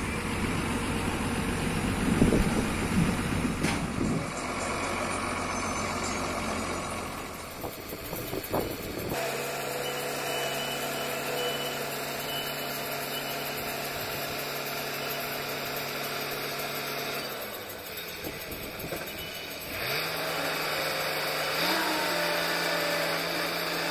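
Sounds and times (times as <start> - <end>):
drilling rig machinery noise: 0.0 - 23.9
steady engine hum: 0.0 - 23.9.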